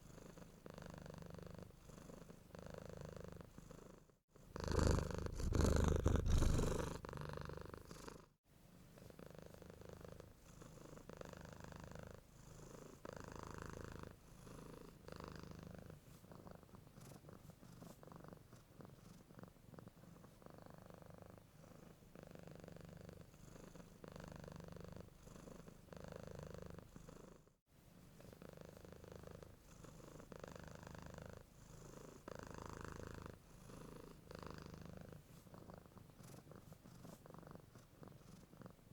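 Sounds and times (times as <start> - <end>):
cat purring: 0.0 - 27.5, 28.2 - 38.9.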